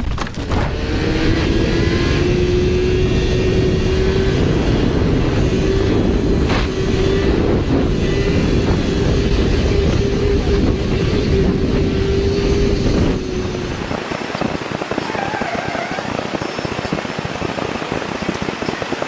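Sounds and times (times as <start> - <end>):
motorcycle engine hum: 0.0 - 19.0
rushing wind and road noise: 0.0 - 19.0.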